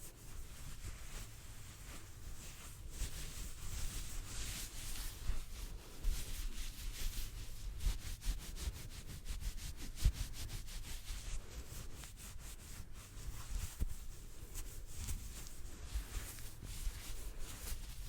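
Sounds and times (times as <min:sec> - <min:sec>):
hands rubbing: 0:00.0 - 0:18.0.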